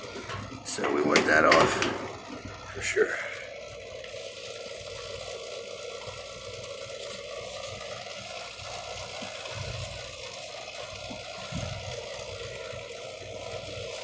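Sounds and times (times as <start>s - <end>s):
foaming cleaner fizzing and crackling: 0.0s - 14.0s
low hum of running equipment: 0.0s - 14.0s.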